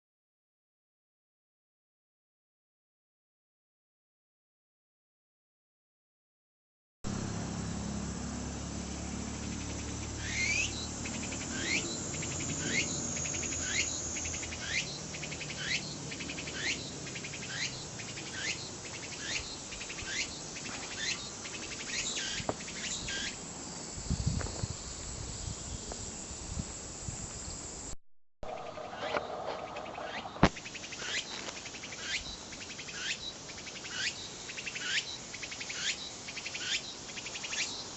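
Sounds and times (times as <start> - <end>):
cicada singing: 7.1 - 37.9.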